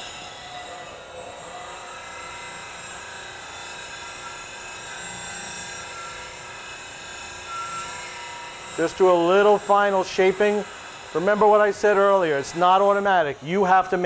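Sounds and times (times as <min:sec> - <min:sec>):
bench grinder grinding steel: 0:00.0 - 0:14.0.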